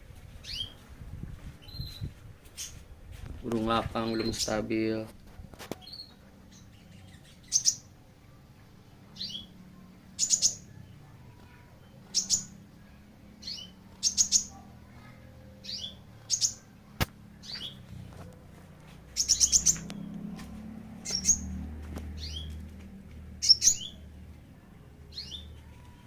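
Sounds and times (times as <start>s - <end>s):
songbird chirping: 0.4s - 26.0s.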